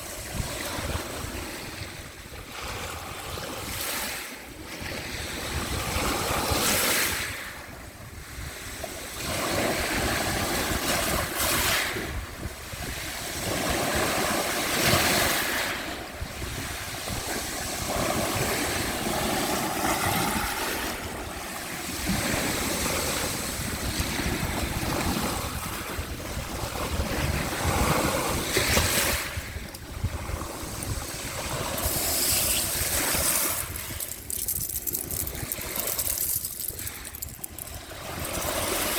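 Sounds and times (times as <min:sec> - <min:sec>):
sea waves washing onto shore: 0:00.0 - 0:38.9
wind rumbling on microphone: 0:04.6 - 0:38.9.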